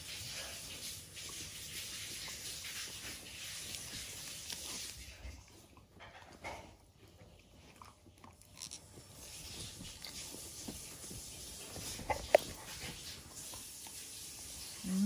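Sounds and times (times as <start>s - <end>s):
dog chomping rawhide chew: 1.2s - 14.1s.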